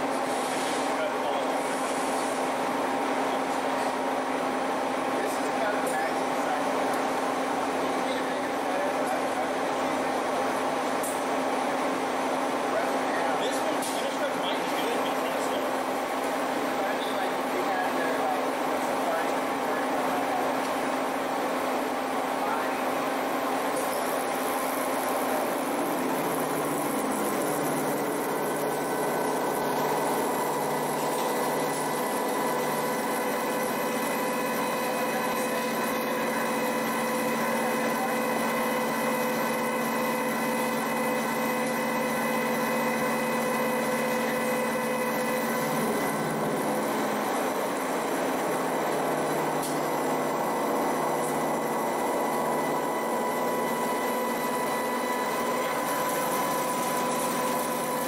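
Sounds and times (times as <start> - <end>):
milling machine whine: 0.0 - 58.0.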